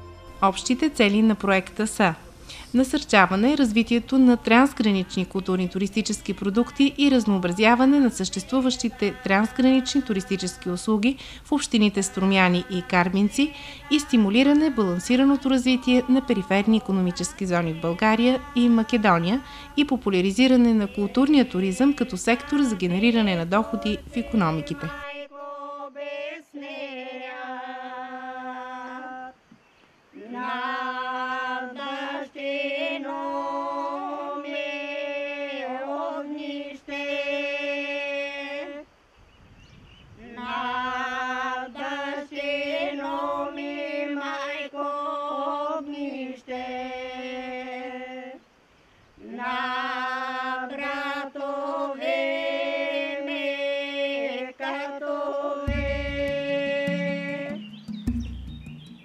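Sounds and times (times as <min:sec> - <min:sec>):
women singing unaccompanied: 0:00.0 - 0:38.9, 0:40.2 - 0:59.0.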